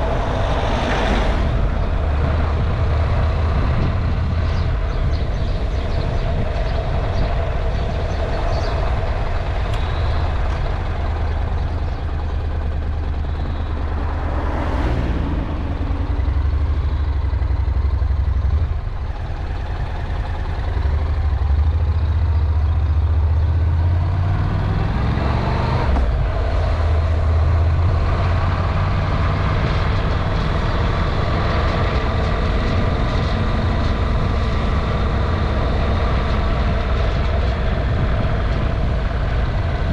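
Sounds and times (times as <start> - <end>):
wind rush on microphone: 0.0 - 21.4, 23.4 - 39.9
vehicle engine running: 0.0 - 39.9.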